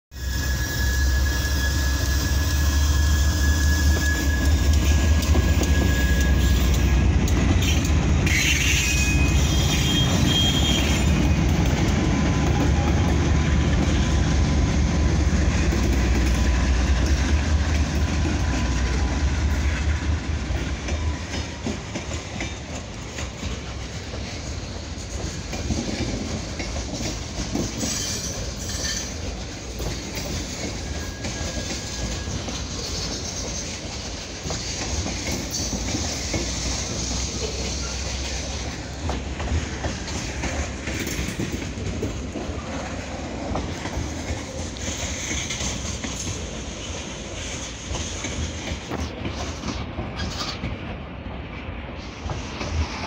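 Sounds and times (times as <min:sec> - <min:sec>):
diesel locomotive engine rumble: 0:00.1 - 0:53.0
train cars rolling: 0:00.1 - 0:53.0.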